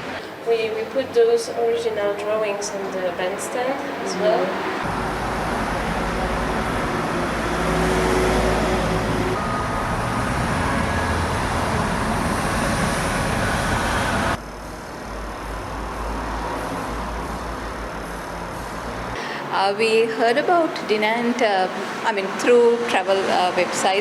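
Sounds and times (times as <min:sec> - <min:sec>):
passing road traffic: 0:00.0 - 0:24.0.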